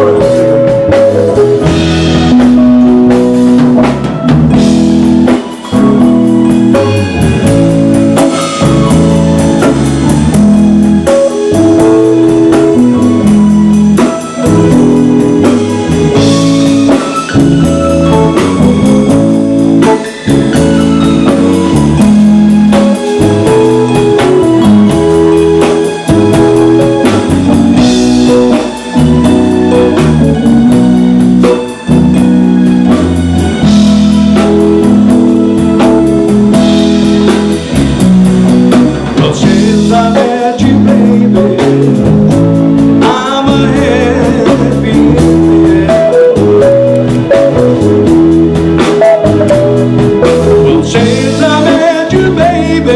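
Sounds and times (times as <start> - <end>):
blues guitar: 0.0 - 52.9
drum kit beat: 0.0 - 52.9.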